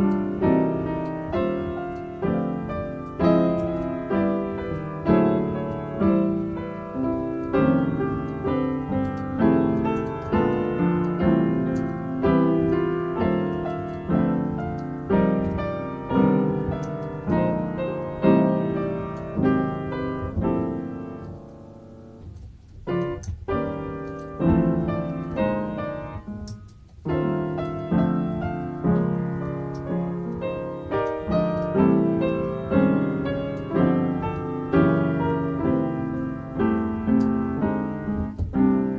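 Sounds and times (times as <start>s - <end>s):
solo piano improvisation: 0.0s - 38.9s.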